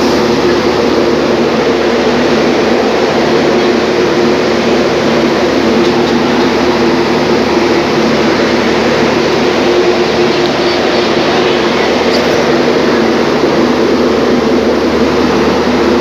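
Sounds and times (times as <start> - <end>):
constant low hum: 0.0 - 16.0
train rumble: 0.0 - 16.0.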